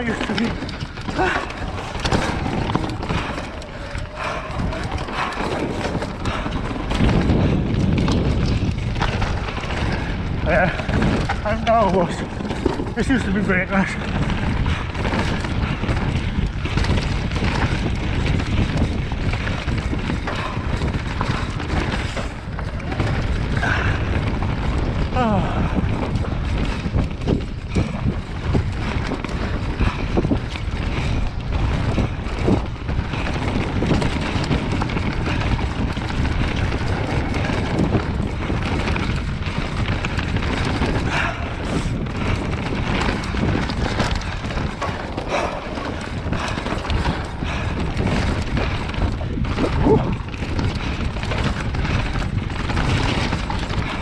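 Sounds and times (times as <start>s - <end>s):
bike knocks and rattles: 0.0s - 54.0s
bike tyre noise on dirt: 0.0s - 54.0s
wind on microphone: 0.0s - 54.0s.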